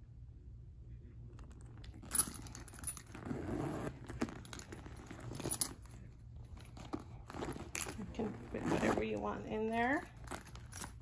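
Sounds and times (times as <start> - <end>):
bag material rustling: 1.5 - 11.0.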